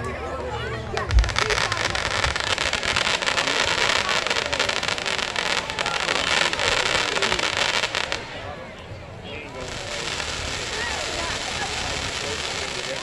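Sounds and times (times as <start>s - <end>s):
fireworks crackling: 0.8s - 13.0s
sizzling hiss: 1.0s - 13.0s.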